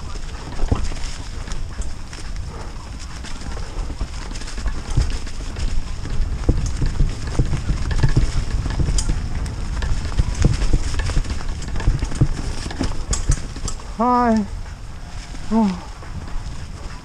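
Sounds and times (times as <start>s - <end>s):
bike knocks and rattles: 0.0s - 14.8s
bike tyres over leaves and rocks: 0.0s - 17.0s
low rumble: 0.0s - 17.0s.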